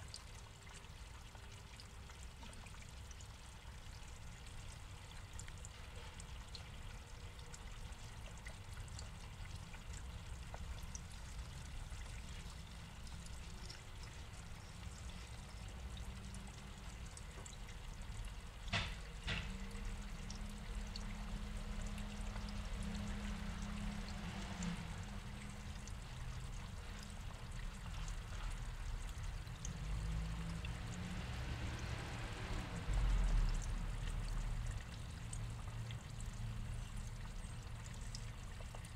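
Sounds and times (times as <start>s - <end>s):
low steady hum: 0.0s - 38.9s
water trickling into pond: 0.0s - 38.9s.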